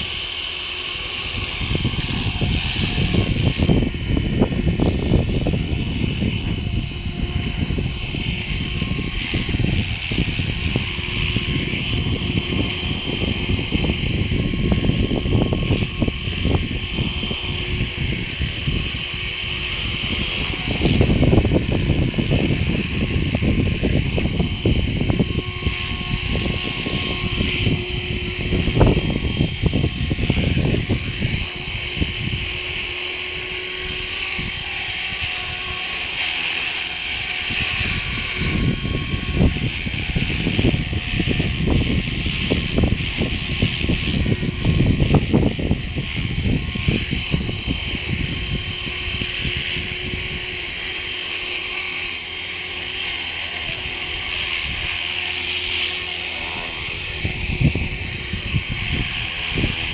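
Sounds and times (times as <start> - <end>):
model helicopter motor whine: 0.0 - 59.9
wind buffeting microphone: 0.0 - 59.9.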